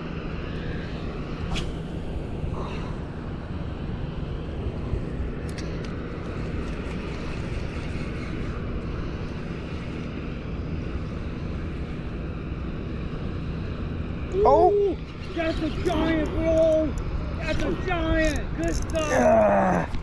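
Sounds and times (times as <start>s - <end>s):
motor droning: 0.0s - 17.9s.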